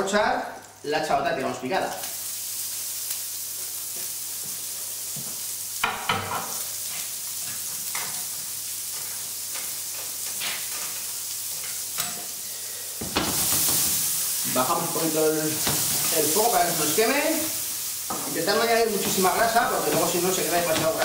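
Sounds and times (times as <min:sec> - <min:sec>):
onion sizzling in frying pan: 0:00.0 - 0:21.0.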